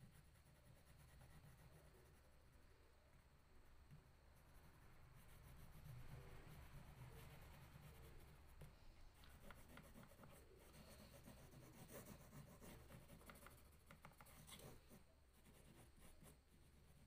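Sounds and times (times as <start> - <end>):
crayon scratching on paper: 0.0 - 2.4, 5.2 - 17.0.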